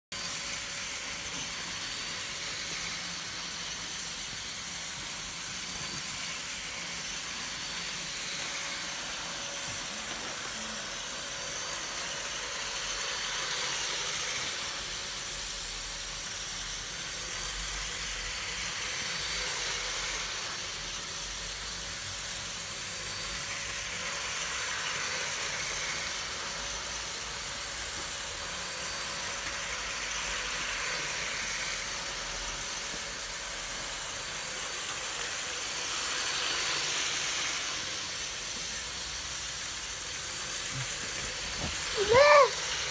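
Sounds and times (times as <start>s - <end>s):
model train motor whirring: 0.2s - 42.9s.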